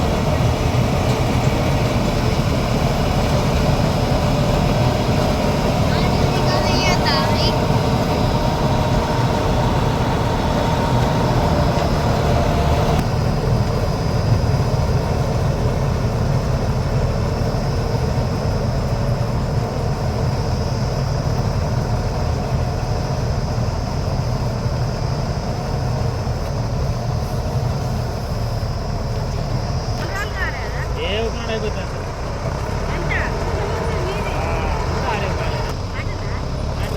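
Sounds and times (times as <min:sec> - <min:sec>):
combine harvester engine drone: 0:00.0 - 0:36.9
machinery whining tones: 0:00.0 - 0:36.9.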